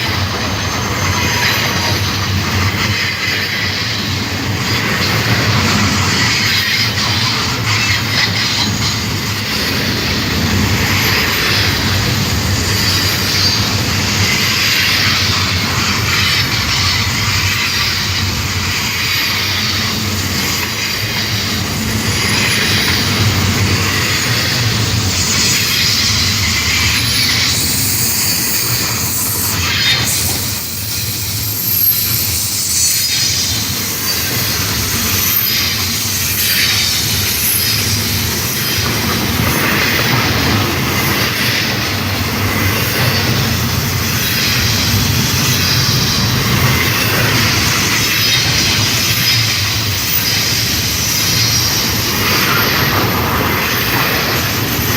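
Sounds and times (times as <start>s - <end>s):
train wheels rumbling and clattering: 0.0s - 54.9s
train wheels squealing on rails: 0.0s - 54.9s.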